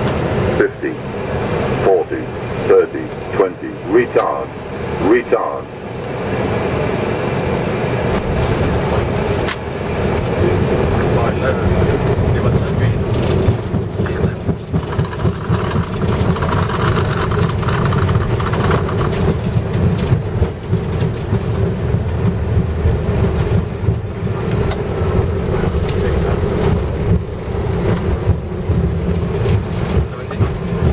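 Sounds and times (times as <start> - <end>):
rumble of wheels and jet engines: 0.0 - 30.9.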